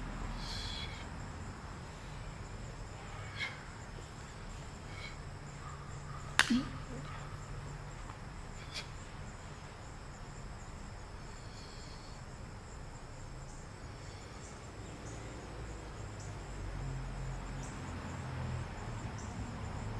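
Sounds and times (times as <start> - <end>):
crickets chirping: 0.0 - 19.9.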